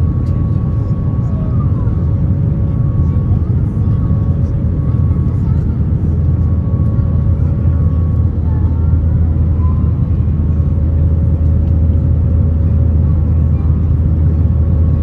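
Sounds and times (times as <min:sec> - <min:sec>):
engine and airflow rumble: 0:00.0 - 0:15.0.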